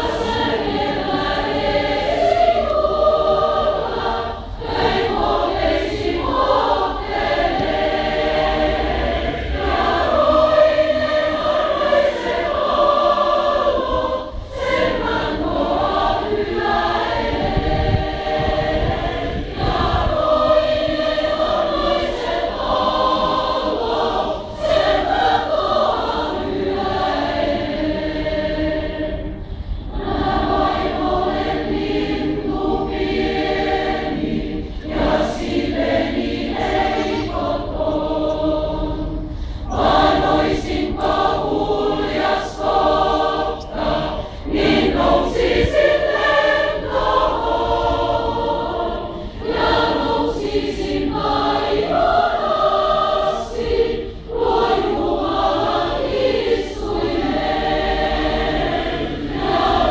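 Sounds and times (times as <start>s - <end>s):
mass choir singing: 0.0s - 59.9s.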